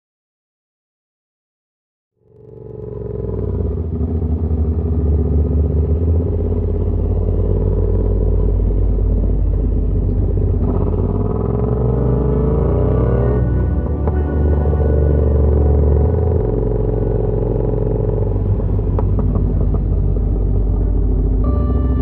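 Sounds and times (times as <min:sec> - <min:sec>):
motorcycle engine accelerating: 0:02.2 - 0:22.0.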